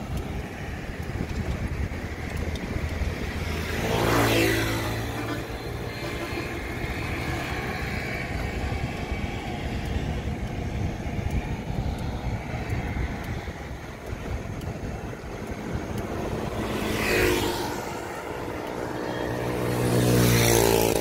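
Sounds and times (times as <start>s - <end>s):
bicycle road noise: 0.0s - 21.0s
road traffic: 0.0s - 21.0s
wind on microphone: 0.0s - 21.0s.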